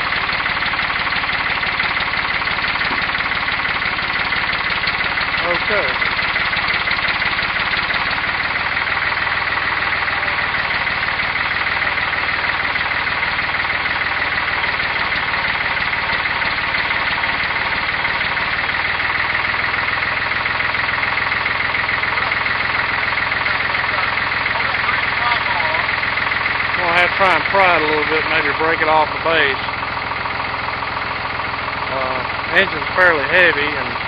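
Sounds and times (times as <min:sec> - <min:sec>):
tractor engine running steadily: 0:00.0 - 0:34.0.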